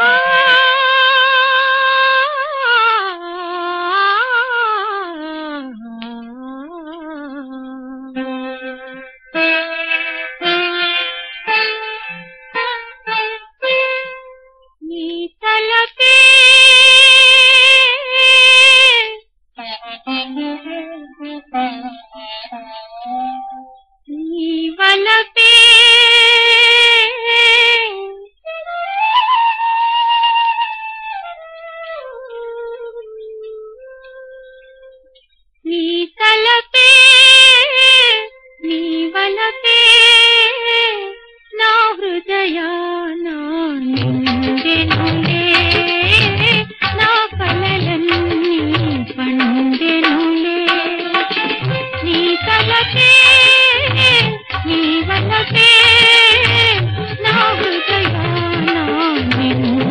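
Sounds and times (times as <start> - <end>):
woman singing wordless melody: 0.0 - 9.6, 14.7 - 19.2, 23.3 - 31.3, 32.0 - 35.0, 35.6 - 59.9.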